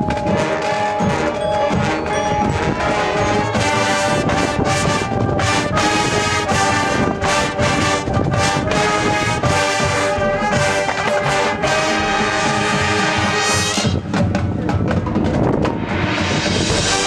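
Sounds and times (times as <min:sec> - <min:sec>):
marching band brass chords: 0:00.0 - 0:14.8, 0:15.7 - 0:17.0
percussion strokes: 0:00.0 - 0:17.0.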